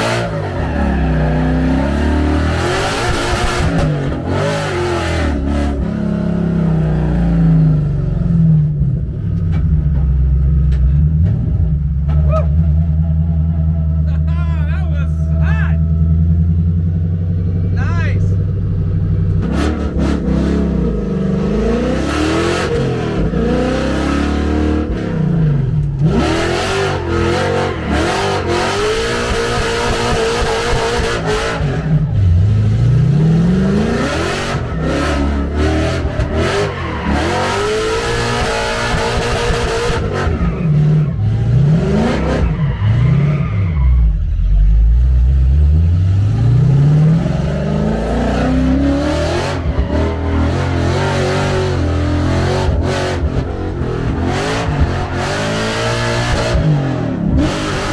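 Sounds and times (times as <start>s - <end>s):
car engine revving hard: 0.0s - 8.5s, 19.3s - 57.9s.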